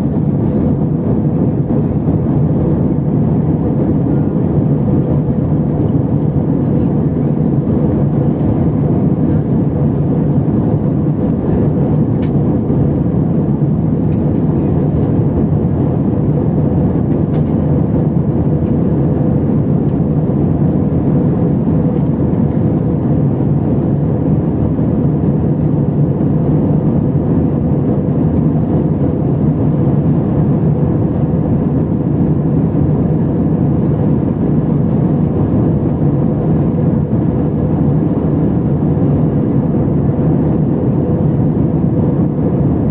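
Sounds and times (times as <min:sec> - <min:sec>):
airplane cabin engine roar: 0:00.0 - 0:42.9.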